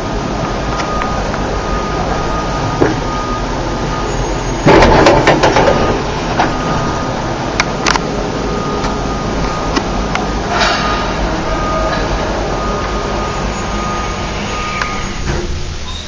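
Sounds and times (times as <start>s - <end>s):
lift doors rattling: 0.0s - 16.0s.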